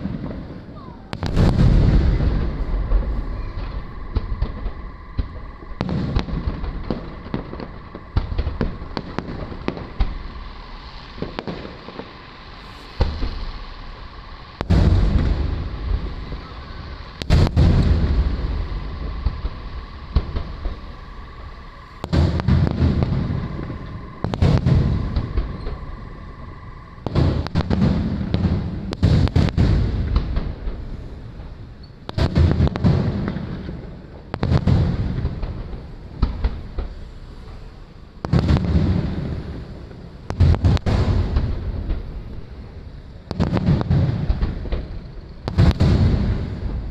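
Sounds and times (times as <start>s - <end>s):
fireworks booms: 0.0s - 46.9s
fireworks cracking and popping: 0.0s - 46.9s
low rumbling echo: 0.0s - 46.9s.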